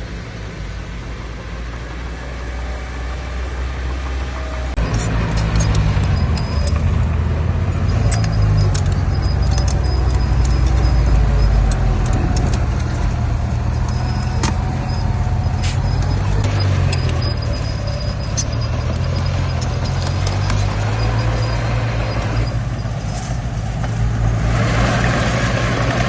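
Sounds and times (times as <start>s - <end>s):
bulldozer diesel engine under load: 0.0s - 26.0s.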